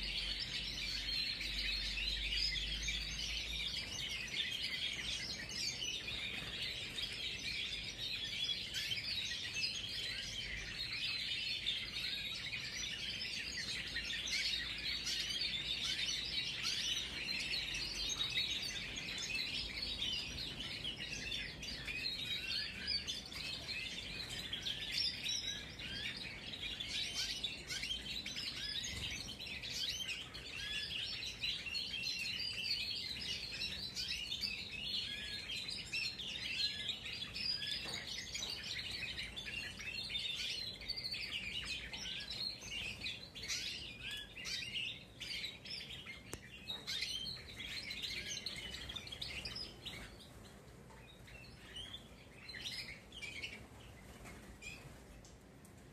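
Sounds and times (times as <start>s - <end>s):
canaries twittering and trilling: 0.0s - 55.9s.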